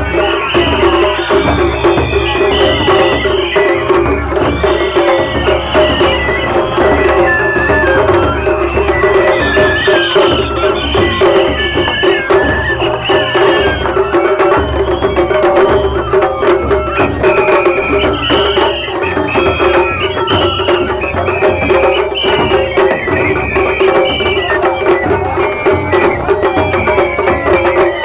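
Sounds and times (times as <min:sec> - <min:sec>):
festival drums: 0:00.0 - 0:28.0.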